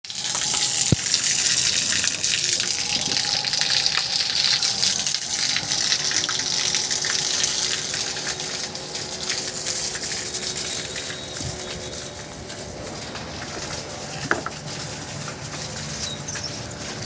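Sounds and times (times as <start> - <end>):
water gushing from a tap: 0.0 - 17.0.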